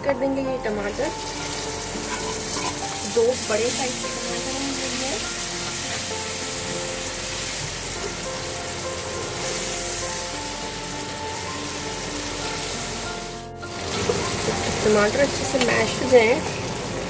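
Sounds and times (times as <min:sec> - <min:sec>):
background music with held notes: 0:00.0 - 0:17.0
tomatoes sizzling in hot oil: 0:00.2 - 0:17.0.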